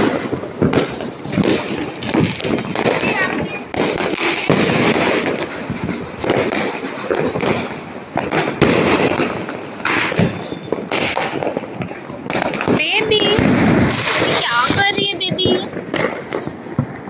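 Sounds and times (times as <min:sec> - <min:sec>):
firecrackers crackling: 0:00.0 - 0:17.0
firework bangs: 0:00.0 - 0:17.0.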